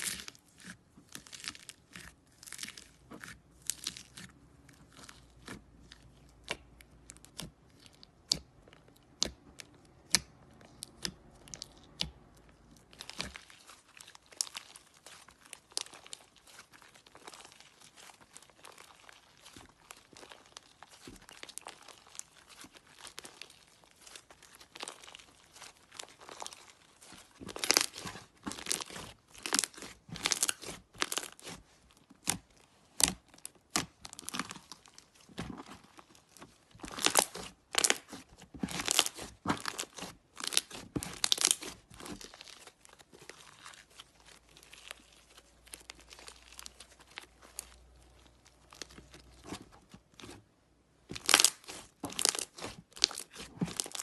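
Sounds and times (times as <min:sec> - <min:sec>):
slime crackling and popping: 0:00.0 - 0:54.0.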